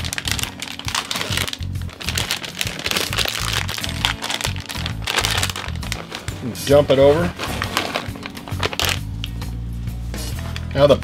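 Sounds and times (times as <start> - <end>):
plastic bag crinkling: 0.0 - 9.3
background music with steady beat: 0.0 - 11.0.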